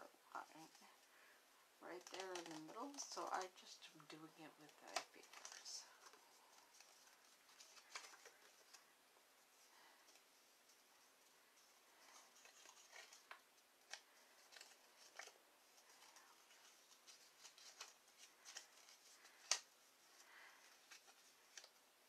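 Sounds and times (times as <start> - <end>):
cardstock rustling and clicking: 1.9 - 8.9, 10.0 - 22.0.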